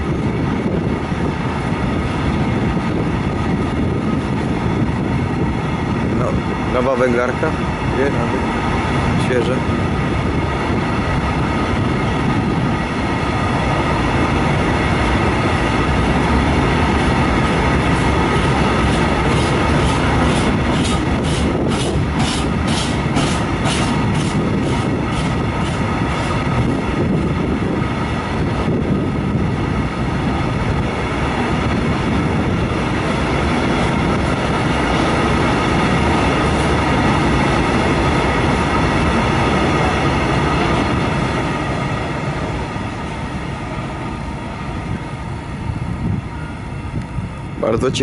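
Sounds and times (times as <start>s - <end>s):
freight wagons rolling on rails: 0.0s - 41.5s.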